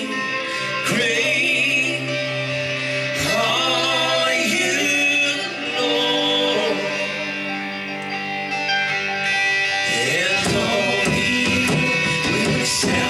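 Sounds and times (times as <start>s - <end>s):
man singing with instruments: 0.0s - 7.8s, 9.7s - 13.0s.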